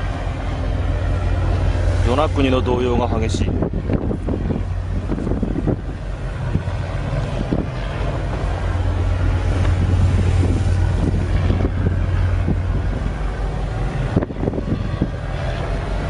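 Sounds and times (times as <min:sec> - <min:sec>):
ship engine drone: 0:00.0 - 0:16.0
wind rushing over microphone: 0:00.0 - 0:16.0.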